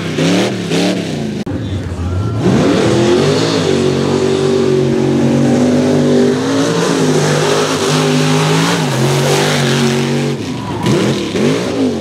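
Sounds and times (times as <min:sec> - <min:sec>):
truck engine at full throttle: 0:00.0 - 0:12.0.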